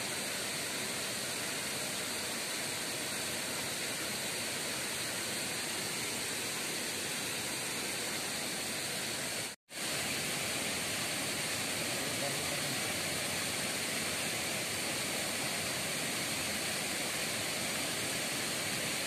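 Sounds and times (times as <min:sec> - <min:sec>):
small waterfall pouring into pool: 0:00.0 - 0:19.0.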